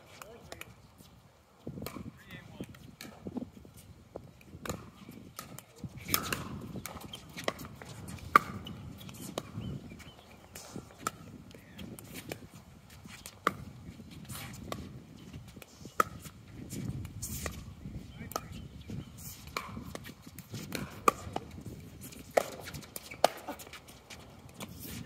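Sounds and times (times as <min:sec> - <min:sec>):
wind rumble on microphone: 0:00.4 - 0:23.0.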